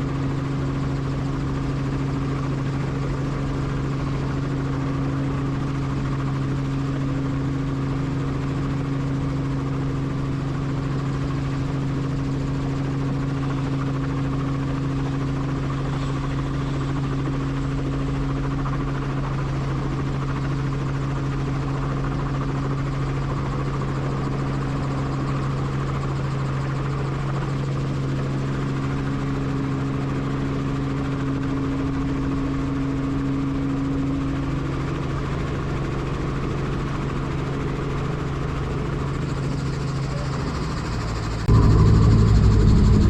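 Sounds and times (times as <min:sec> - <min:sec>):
helicopter drone in flight: 0:00.0 - 0:43.0.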